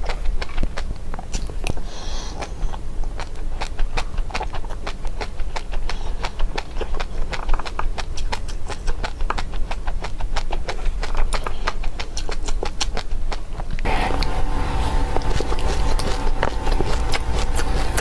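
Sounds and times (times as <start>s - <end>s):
seeds crunching while chewed: 0.0s - 18.0s.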